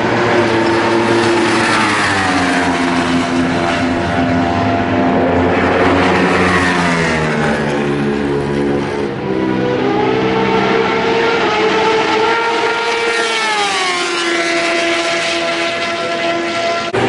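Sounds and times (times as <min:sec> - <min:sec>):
racing motorcycle engines: 0:00.0 - 0:17.0.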